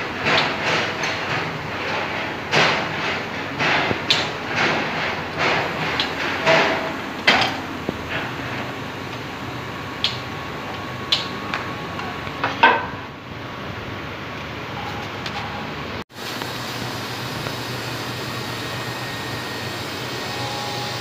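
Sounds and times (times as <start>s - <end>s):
machine shop hum: 0.0s - 21.0s.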